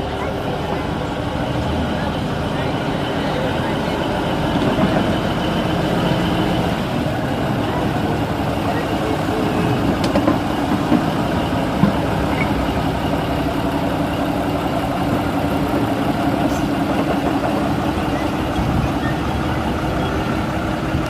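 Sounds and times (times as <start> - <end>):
diesel locomotive engine idling: 0.0 - 21.0.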